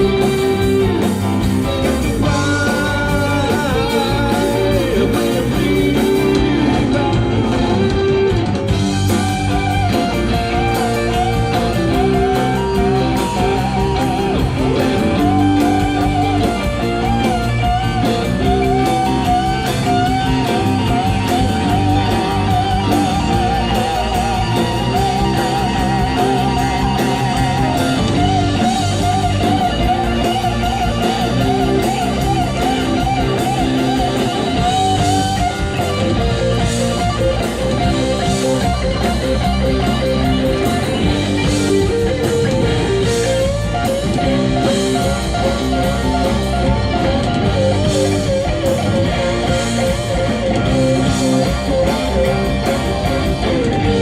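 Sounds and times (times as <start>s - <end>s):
electric lead guitar with vibrato: 0.0s - 54.0s
rock band playing live: 0.0s - 54.0s.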